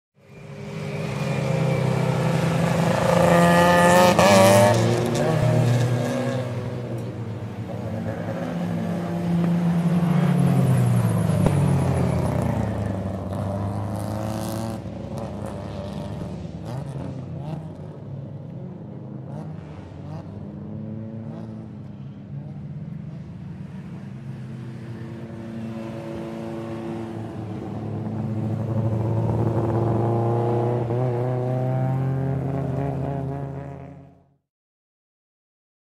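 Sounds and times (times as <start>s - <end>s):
race car engines: 0.2s - 34.4s.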